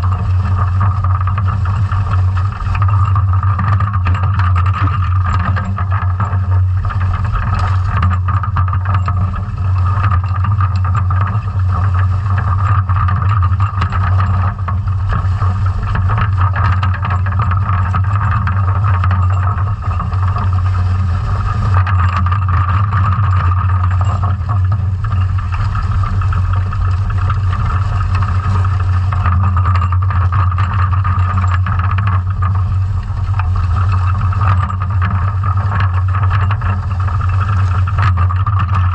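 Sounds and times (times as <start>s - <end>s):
loud low underwater hum: 0.0s - 38.9s.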